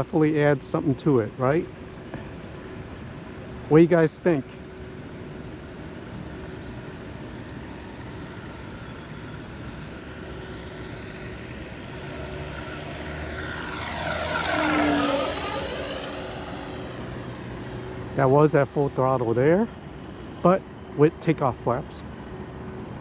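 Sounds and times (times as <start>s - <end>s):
model plane engine drone: 0.0s - 23.0s.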